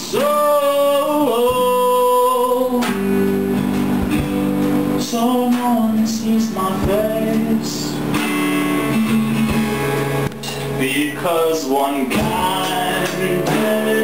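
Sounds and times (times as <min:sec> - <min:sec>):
guitars strumming: 0:00.0 - 0:14.0
rock band playing: 0:00.0 - 0:14.0
drum hits: 0:01.3 - 0:11.2, 0:12.0 - 0:14.0.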